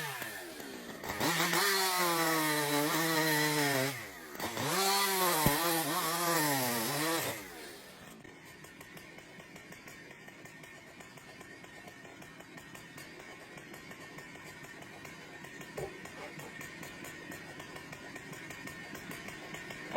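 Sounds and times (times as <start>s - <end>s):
chainsaw engine revving: 0.0s - 19.9s.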